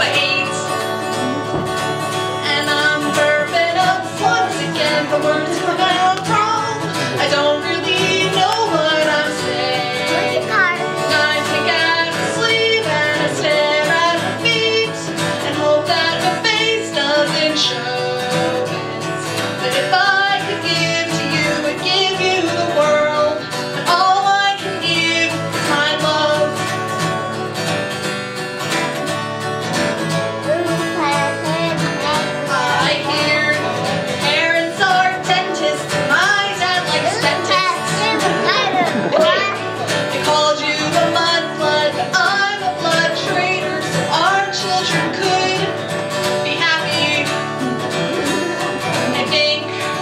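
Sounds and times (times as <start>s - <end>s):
person singing: 0.0s - 27.6s, 28.8s - 50.0s
plucked guitar: 0.0s - 50.0s.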